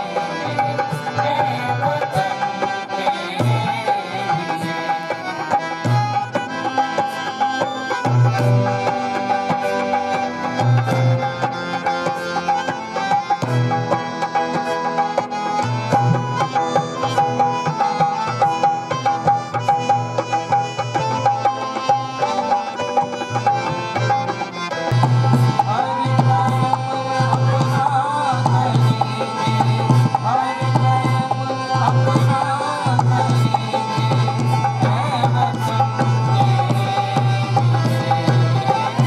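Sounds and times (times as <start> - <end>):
hand drum rhythm: 0.0 - 39.0
harmonium and keyboard tones: 0.0 - 39.0.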